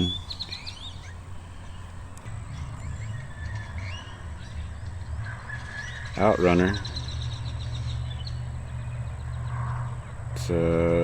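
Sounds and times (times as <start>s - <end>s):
faint bird chirps: 0.0s - 11.0s
steady low rumble: 0.0s - 11.0s.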